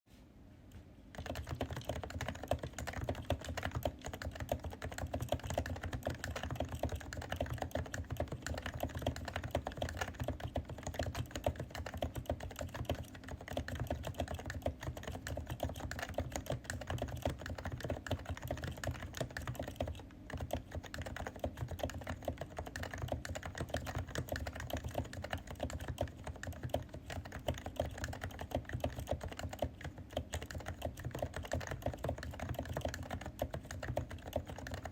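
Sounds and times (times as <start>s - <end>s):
fast keyboard typing: 1.1s - 34.9s.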